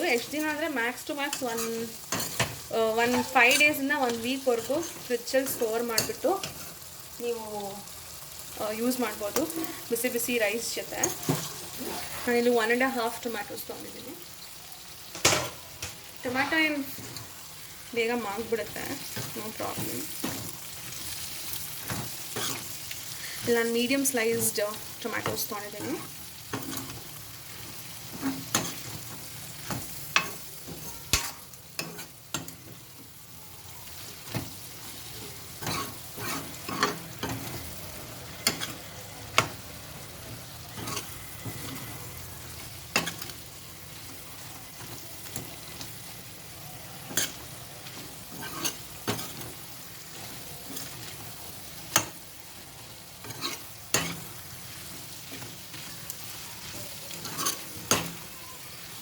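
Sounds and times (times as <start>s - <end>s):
spoon scraping a pan: 0.0s - 6.9s, 8.9s - 13.3s, 15.1s - 33.1s, 33.8s - 59.0s
tomatoes sizzling in a pan: 0.0s - 59.0s.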